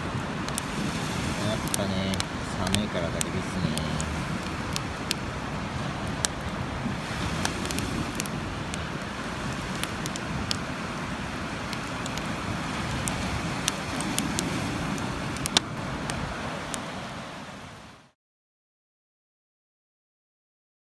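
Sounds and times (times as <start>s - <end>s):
bonfire crackling and popping: 0.0s - 17.9s.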